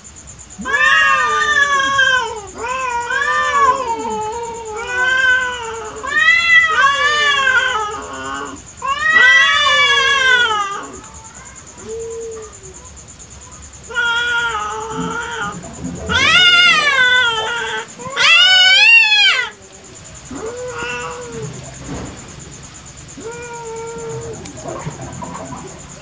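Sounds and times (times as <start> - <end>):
cats yowling: 0.6 - 26.0.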